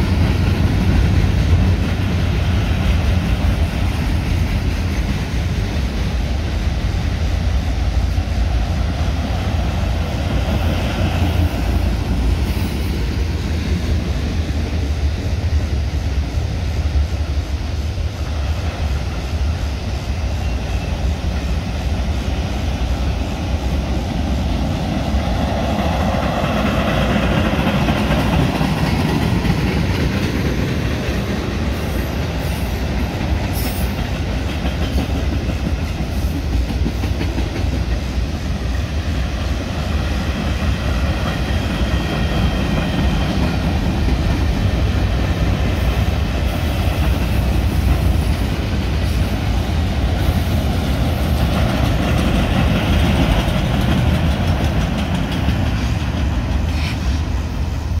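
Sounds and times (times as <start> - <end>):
freight train steel wheels on rails: 0.0 - 58.0.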